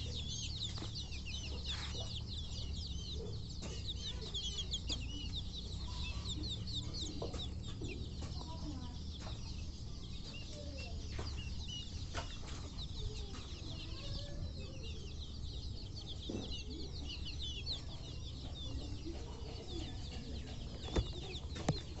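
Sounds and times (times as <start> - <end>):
chicken clucks: 0.0 - 22.0
chicks peeping: 0.0 - 22.0.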